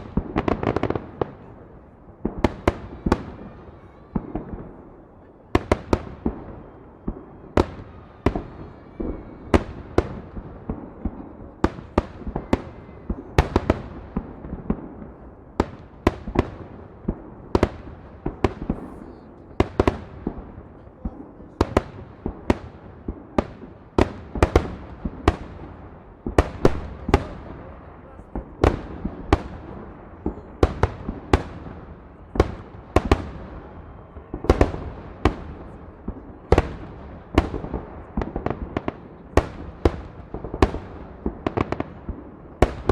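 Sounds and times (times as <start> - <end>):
fireworks sharp bangs: 0.0 - 42.9.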